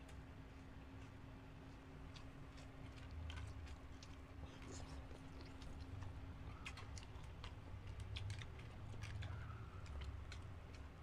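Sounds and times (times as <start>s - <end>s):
chewing and lip smacks: 0.0s - 11.0s.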